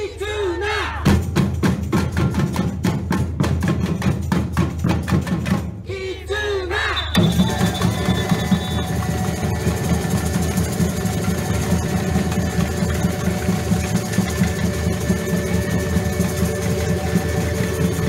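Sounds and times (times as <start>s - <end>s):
samba music with fast percussion: 0.8s - 18.0s.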